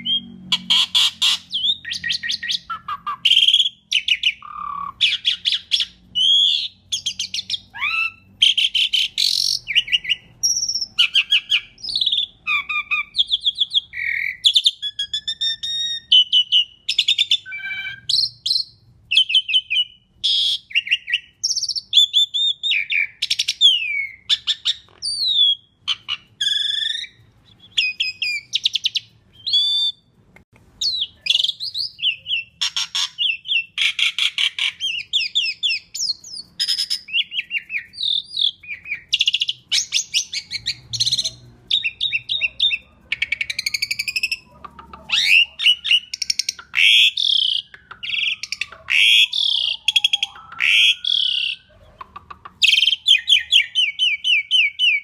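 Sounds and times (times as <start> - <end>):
starling singing whistles and chirps: 0.0 - 30.1, 30.8 - 55.0.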